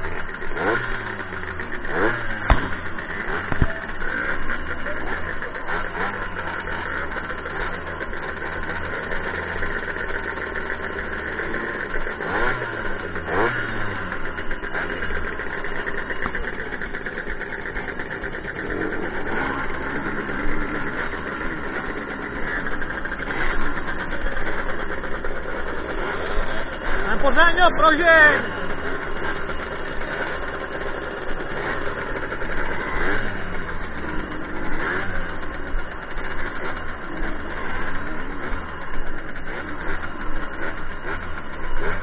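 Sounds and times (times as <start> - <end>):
moped engine idling: 0.0 - 42.0.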